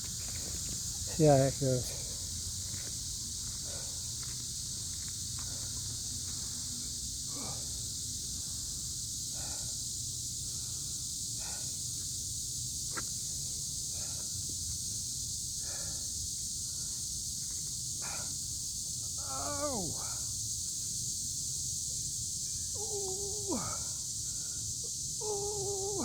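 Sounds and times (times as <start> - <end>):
cicada chorus buzzing: 0.0 - 26.0.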